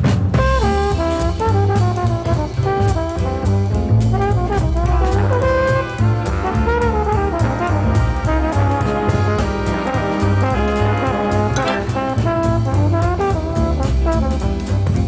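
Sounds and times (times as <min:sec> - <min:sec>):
big band jazz music: 0:00.0 - 0:15.0.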